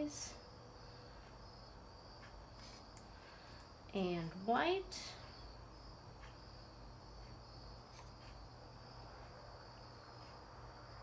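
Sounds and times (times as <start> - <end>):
crickets and cicadas chirring: 0.0 - 11.0.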